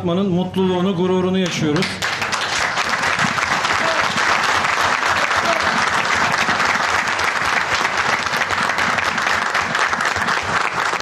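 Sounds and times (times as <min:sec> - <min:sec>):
many people clapping: 0:01.4 - 0:11.0.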